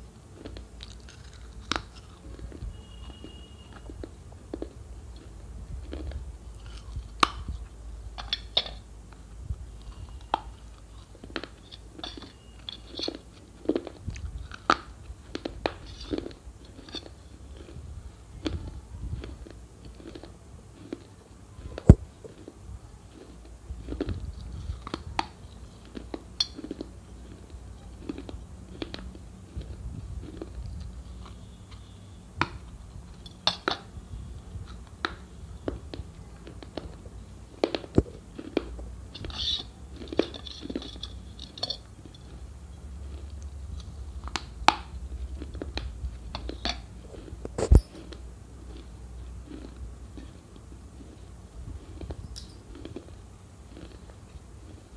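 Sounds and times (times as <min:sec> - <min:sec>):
low steady hum: 0:00.0 - 0:54.9
person chewing crunchy food: 0:00.0 - 0:54.9.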